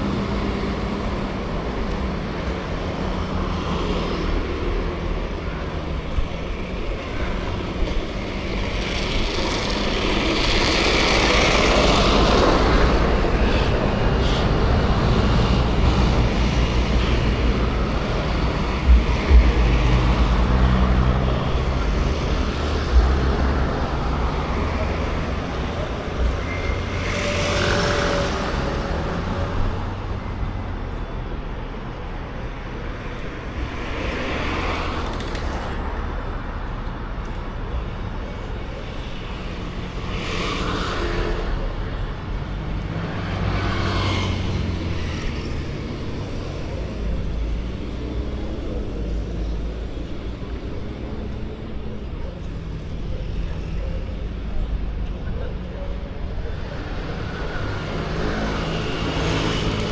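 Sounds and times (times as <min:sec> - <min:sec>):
low traffic rumble: 0:00.0 - 0:59.9
vehicles passing by: 0:00.0 - 0:59.9.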